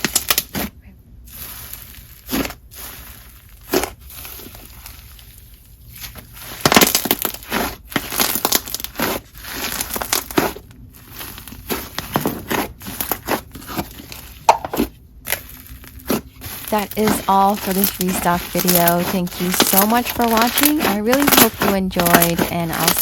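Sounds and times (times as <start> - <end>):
hands squishing slime: 0.0 - 23.0.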